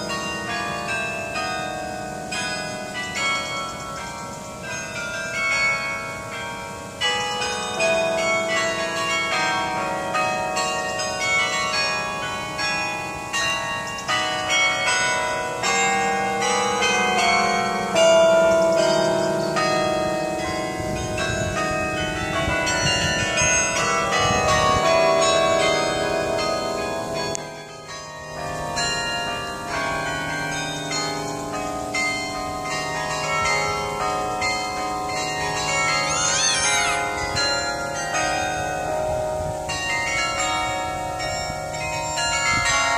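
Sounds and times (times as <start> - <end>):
carillon bells playing a tune: 0.0 - 42.9.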